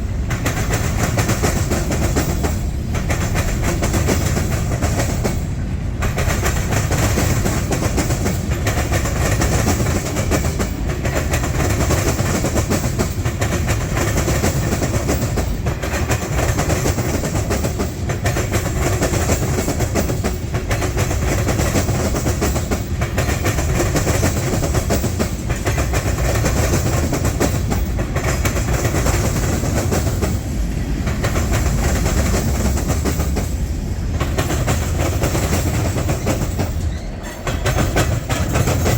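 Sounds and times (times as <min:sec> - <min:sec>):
freight train rumble: 0:00.0 - 0:38.9
train wheels clicking on rail joints: 0:00.0 - 0:38.9.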